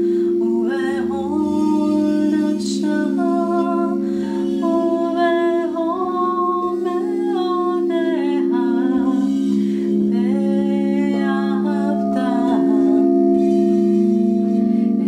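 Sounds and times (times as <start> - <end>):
singing bowls low tones: 0.0 - 15.0
woman singing wordlessly: 0.0 - 15.0.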